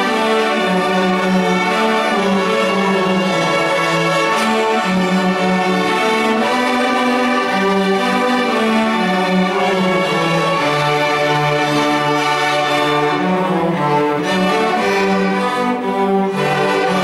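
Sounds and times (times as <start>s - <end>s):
low cello line: 0.0s - 17.0s
violins playing held notes: 0.0s - 17.0s.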